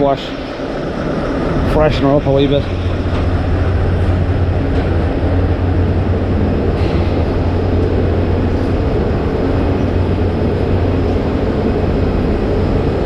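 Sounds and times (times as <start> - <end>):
loading plant rumbling: 0.0 - 13.0.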